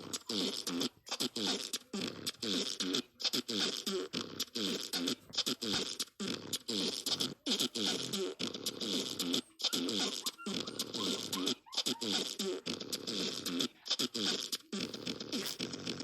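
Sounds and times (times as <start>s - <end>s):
fart sound effects: 0.0s - 16.0s.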